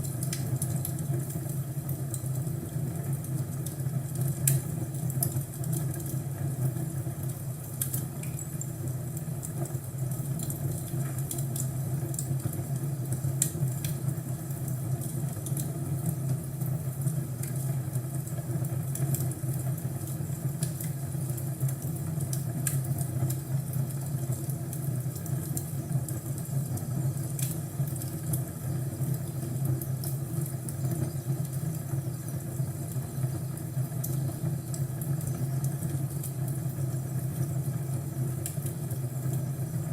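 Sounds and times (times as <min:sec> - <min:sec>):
fireplace crackling: 0:00.0 - 0:39.9.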